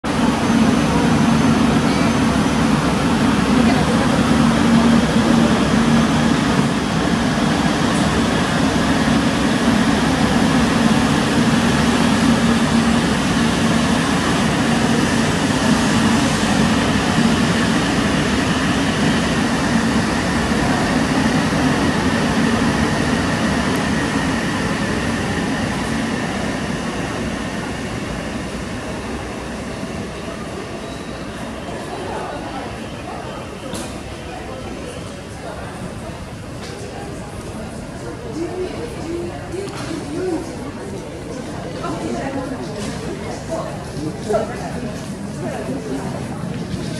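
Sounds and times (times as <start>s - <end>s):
high-speed train running: 0.0s - 46.9s.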